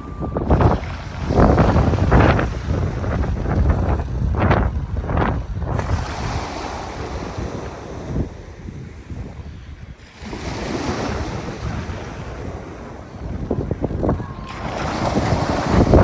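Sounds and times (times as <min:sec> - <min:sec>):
ocean waves washing onto shore: 0:00.0 - 0:16.0
wind buffeting microphone: 0:00.0 - 0:16.0.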